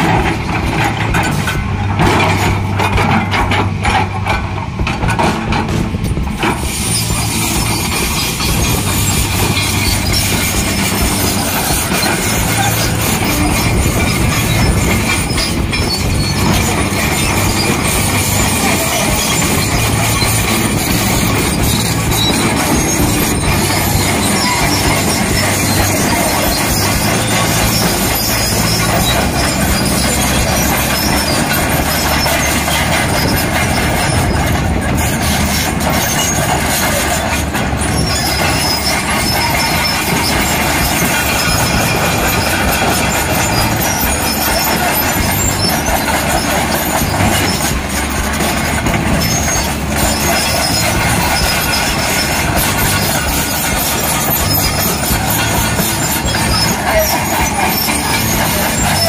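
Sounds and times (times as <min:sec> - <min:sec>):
excavator diesel engine running: 0:00.0 - 0:59.0
track chains clanking: 0:00.0 - 0:59.0.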